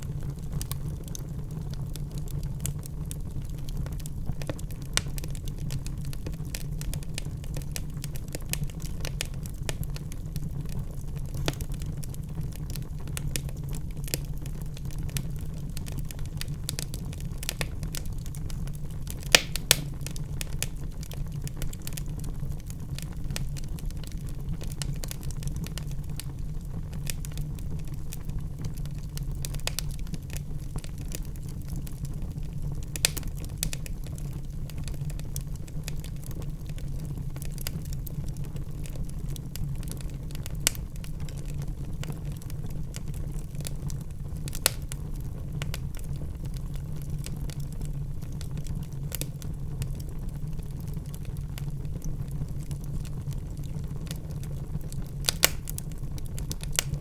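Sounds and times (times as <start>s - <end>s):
wood fire crackling in a fireplace: 0.0s - 57.0s.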